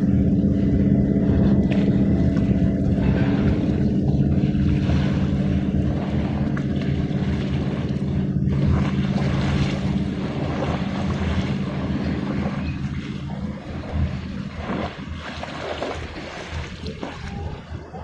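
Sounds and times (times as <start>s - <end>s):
low motor drone: 0.0s - 18.0s
sea noise: 0.0s - 18.0s
wind: 0.0s - 18.0s.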